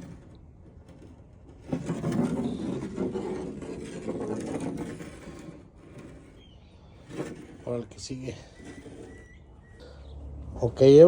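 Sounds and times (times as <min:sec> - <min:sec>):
mechanical scraping and rattling: 0:00.0 - 0:09.8.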